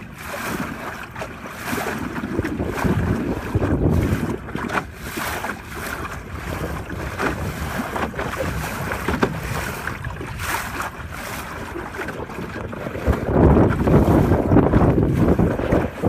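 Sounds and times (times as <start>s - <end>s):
water slapping wooden hull: 0.0s - 16.0s
wind buffeting microphone: 0.0s - 16.0s.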